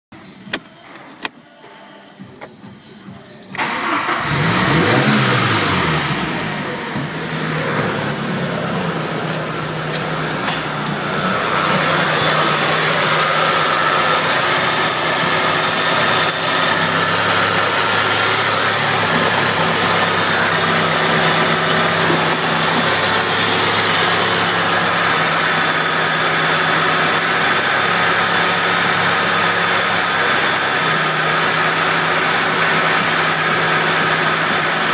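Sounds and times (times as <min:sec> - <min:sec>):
car engine starting and idling: 0:03.5 - 0:34.9.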